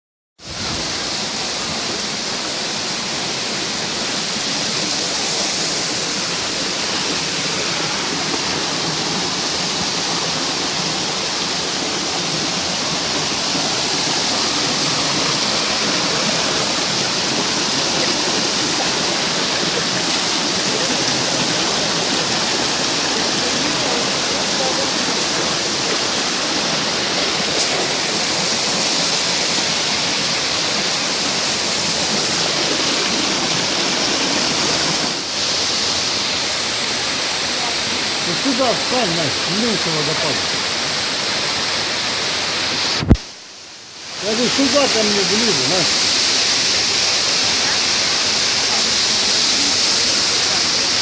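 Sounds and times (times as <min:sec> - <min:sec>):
waterfall rushing: 0:00.4 - 0:51.0.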